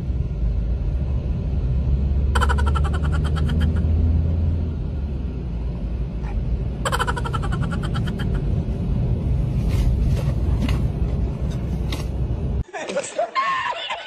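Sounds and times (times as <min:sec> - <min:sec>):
car interior rumble: 0:00.0 - 0:12.6.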